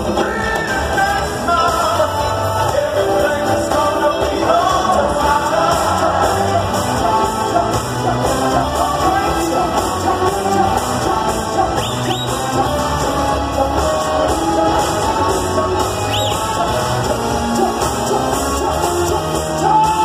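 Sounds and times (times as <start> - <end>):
live band music: 0.0 - 20.0
person singing: 0.0 - 20.0.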